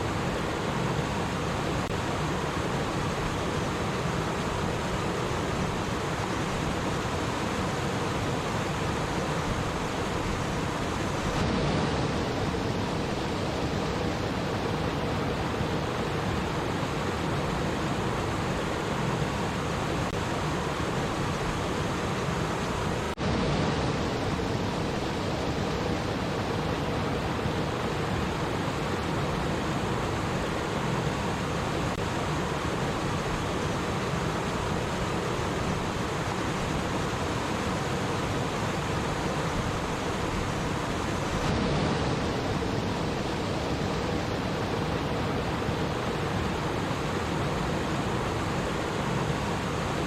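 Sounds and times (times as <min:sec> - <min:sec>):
stream rushing and babbling: 0:00.0 - 0:50.0.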